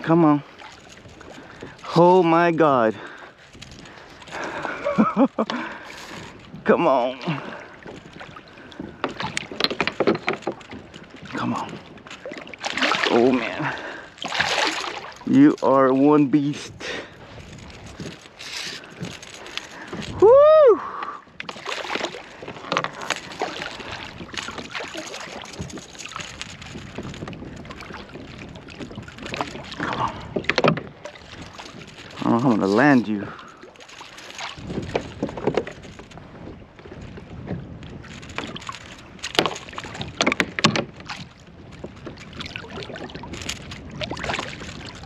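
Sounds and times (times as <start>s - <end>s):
water splashing around kayak: 0.0s - 45.0s
wind on microphone: 0.0s - 45.0s.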